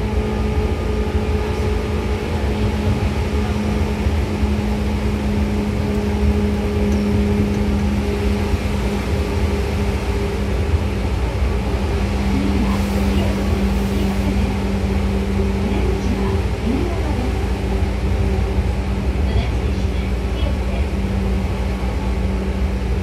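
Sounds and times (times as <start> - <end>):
train running gear hum: 0.0 - 23.0
train wheels rumbling on rail: 0.0 - 23.0.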